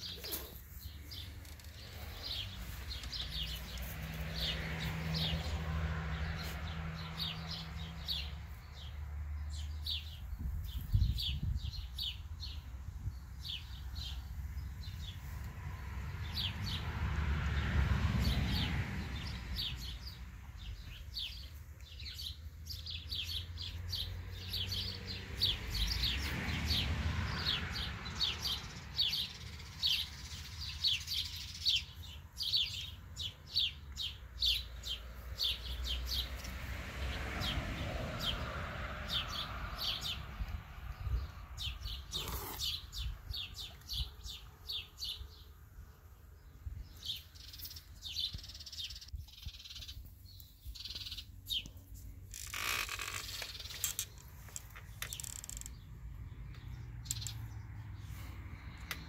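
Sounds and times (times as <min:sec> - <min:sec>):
small birds chirping: 0:00.0 - 0:16.9, 0:18.2 - 0:36.7, 0:39.1 - 0:59.0.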